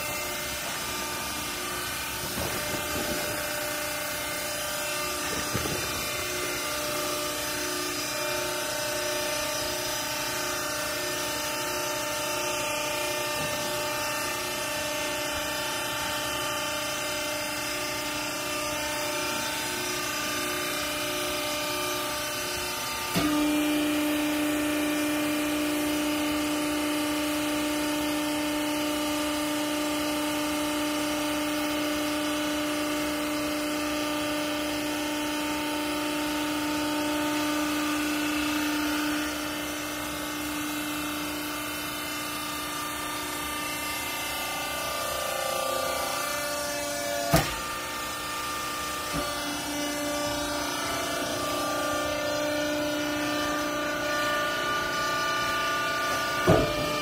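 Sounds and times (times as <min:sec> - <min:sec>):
hydraulic power unit humming: 0:00.0 - 0:57.0
hydraulic pump whine: 0:00.0 - 0:57.0.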